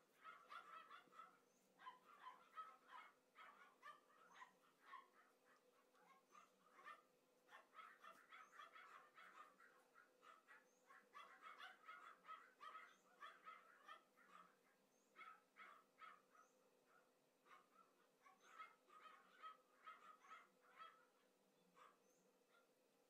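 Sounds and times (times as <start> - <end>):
small dogs yapping: 0.0 - 22.7.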